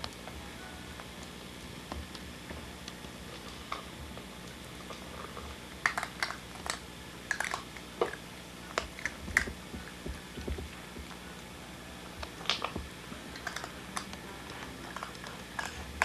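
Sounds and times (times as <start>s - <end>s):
puppy chewing and crunching food: 0.0s - 16.0s.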